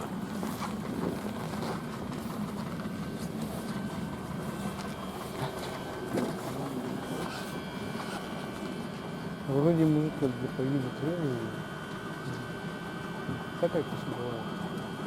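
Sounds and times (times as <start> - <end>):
vehicle engine idling: 0.0 - 14.4.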